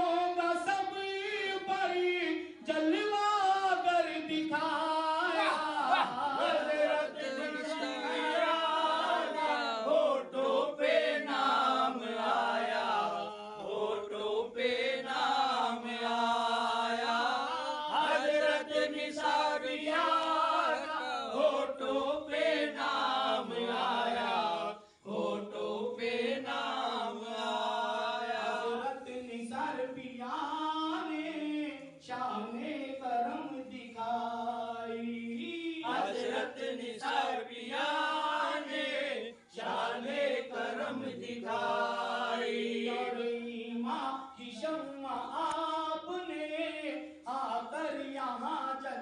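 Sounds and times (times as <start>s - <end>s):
man singing devotional song: 0.0s - 49.0s.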